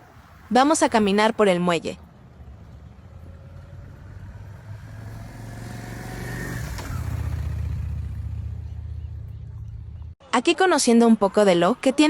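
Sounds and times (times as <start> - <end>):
vehicle engine rumbling: 0.0 - 10.2.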